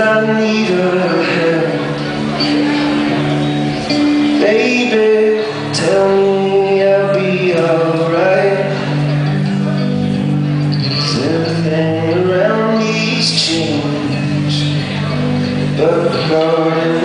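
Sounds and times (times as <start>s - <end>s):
electric guitar chords: 0.0s - 17.0s
man singing wordless melody: 0.0s - 17.0s.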